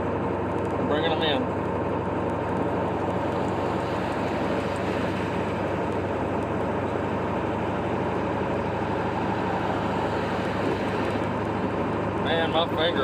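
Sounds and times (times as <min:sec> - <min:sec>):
pickup truck engine hum: 0:00.0 - 0:13.0
road noise: 0:00.0 - 0:13.0.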